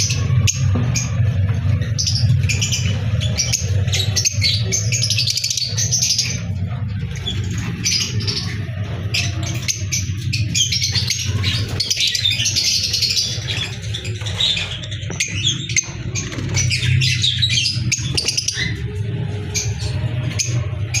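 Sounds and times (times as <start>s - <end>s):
lovebirds chattering: 0.0s - 21.0s.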